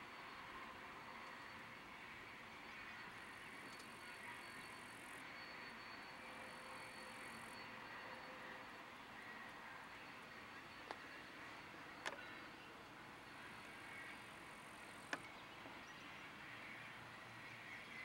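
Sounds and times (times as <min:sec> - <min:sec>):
distant freight train rolling: 0:00.0 - 0:18.0.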